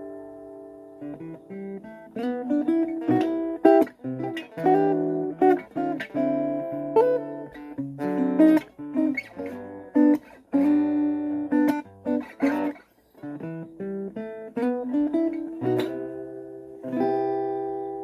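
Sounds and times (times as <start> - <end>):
acoustic-electric guitar strumming: 0.0 - 18.0.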